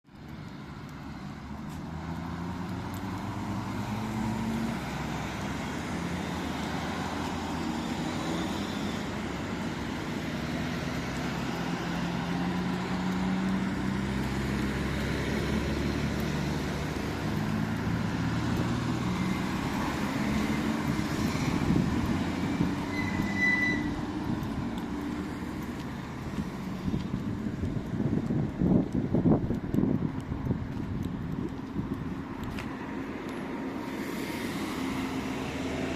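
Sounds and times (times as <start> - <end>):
street noise: 0.0 - 35.9.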